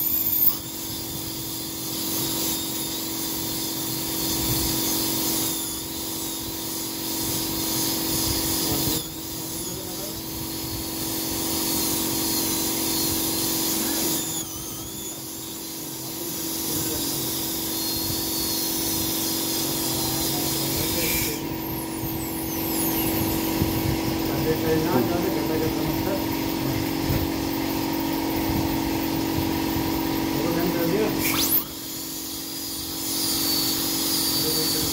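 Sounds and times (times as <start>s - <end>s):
dental drill whining: 0.0s - 34.9s
steady hum: 0.0s - 34.9s.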